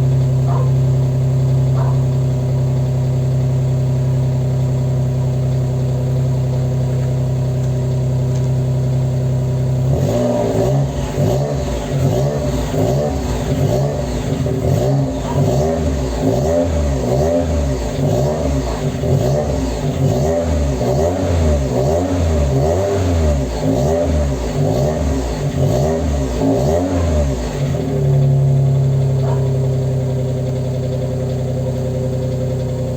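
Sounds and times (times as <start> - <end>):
car engine idling and revving: 0.0 - 32.9.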